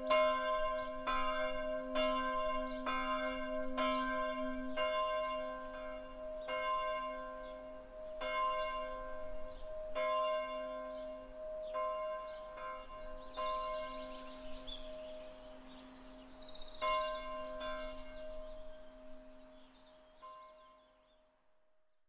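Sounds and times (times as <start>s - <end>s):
church bell tolling: 0.0s - 20.8s.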